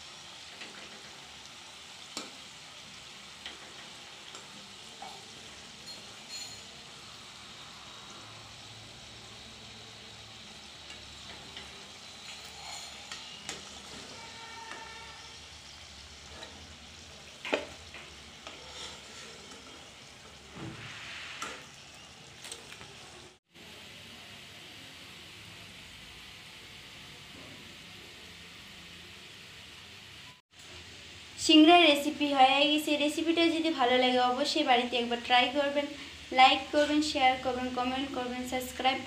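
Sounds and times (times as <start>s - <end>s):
deep-frying in hot oil: 0.0s - 39.0s.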